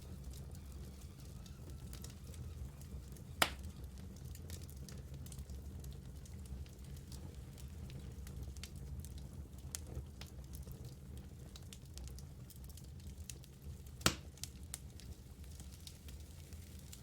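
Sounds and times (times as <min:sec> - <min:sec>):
fire crackling and popping: 0:00.0 - 0:17.0
low rumble of flame: 0:00.0 - 0:17.0.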